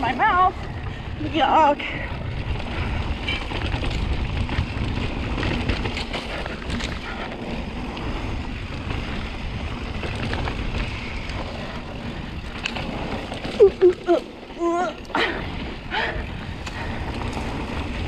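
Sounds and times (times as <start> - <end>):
bike clicks and rattles: 0.0 - 18.0
bike tyres on dirt: 0.0 - 18.0
wind buffeting microphone: 0.0 - 18.0.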